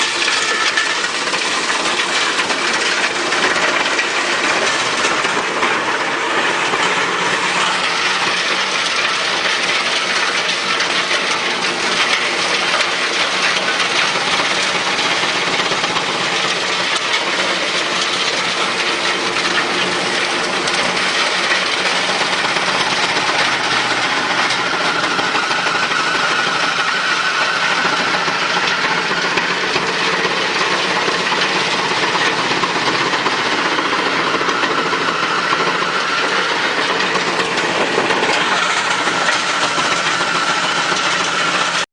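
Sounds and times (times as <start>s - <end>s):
wood chipper running: 0.0s - 41.9s.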